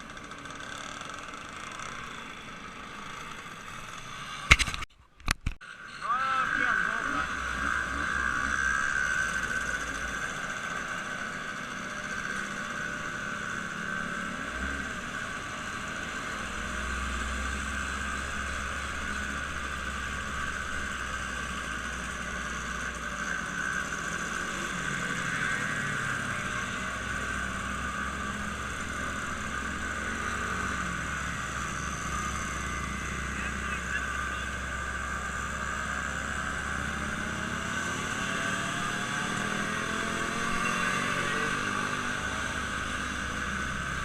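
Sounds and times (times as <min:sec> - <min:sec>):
vehicle engine running: 0:05.7 - 0:44.0.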